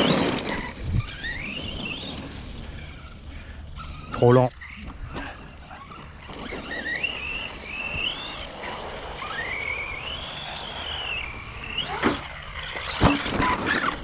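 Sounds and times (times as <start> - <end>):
electric motor whining: 0.0 - 14.0
tyres rushing on dirt: 0.0 - 14.0.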